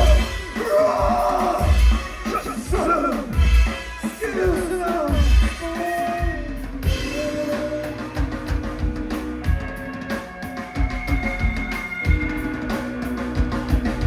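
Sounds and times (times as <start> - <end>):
drum kit hitting: 0.0 - 14.0
live band music: 0.0 - 14.0.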